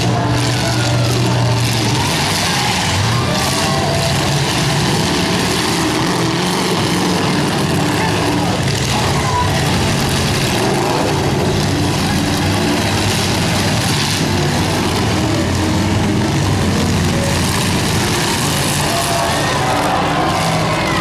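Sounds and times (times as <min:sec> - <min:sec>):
car engines running loud: 0:00.0 - 0:21.0.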